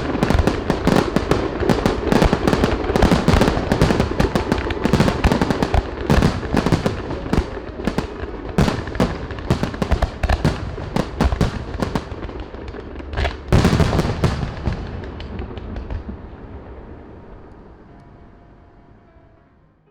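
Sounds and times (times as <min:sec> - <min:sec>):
fireworks bangs and crackling: 0:00.0 - 0:17.0
rumbling echo: 0:00.0 - 0:19.0.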